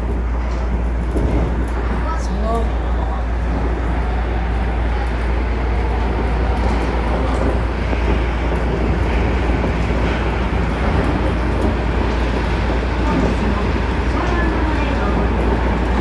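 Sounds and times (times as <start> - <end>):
monorail car low rumble: 0.0 - 16.0.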